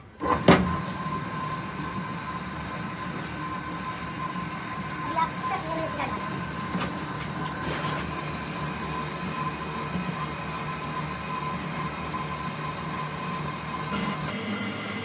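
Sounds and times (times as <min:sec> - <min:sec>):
machine humming: 0:00.2 - 0:15.0
thin constant whine: 0:01.1 - 0:15.0.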